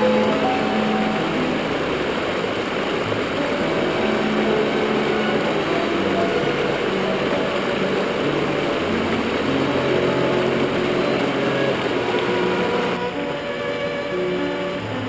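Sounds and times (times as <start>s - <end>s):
background music of held notes: 0.0s - 15.0s
creek water rushing over rocks: 0.0s - 15.0s.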